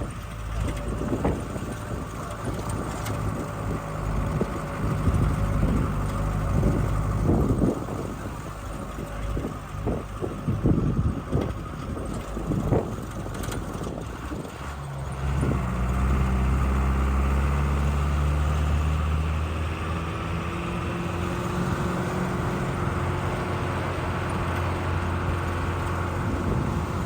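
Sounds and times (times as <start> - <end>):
wind on microphone: 0.0 - 14.6, 15.2 - 17.5, 20.7 - 27.0
vehicle engine running: 0.0 - 27.0.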